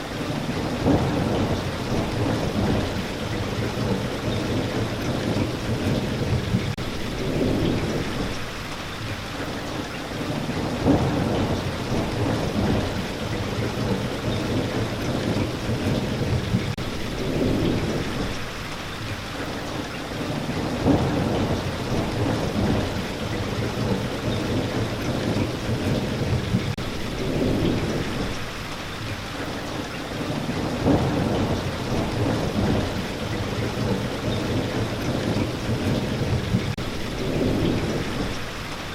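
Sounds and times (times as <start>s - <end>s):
steady rain falling: 0.0s - 38.9s
low rolling thunder: 0.5s - 8.6s, 10.3s - 18.6s, 20.3s - 28.6s, 30.2s - 38.8s.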